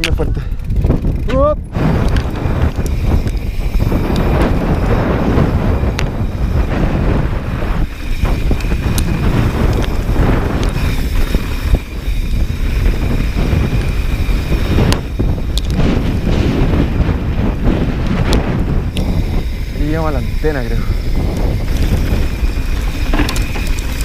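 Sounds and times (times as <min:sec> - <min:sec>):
sharp clicks and rattles: 0:00.0 - 0:24.0
wind buffeting microphone: 0:00.0 - 0:24.0
tyres rolling on gravel: 0:01.8 - 0:24.0.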